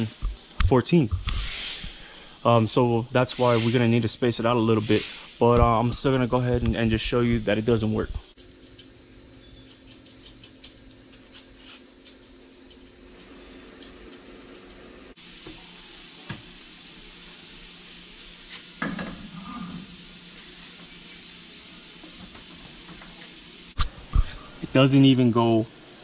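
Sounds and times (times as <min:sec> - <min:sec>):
shop background hiss: 0:00.0 - 0:26.0.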